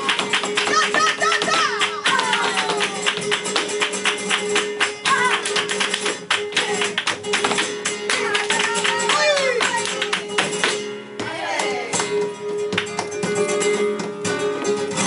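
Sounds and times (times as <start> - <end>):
flamenco guitar: 0.0 - 15.0.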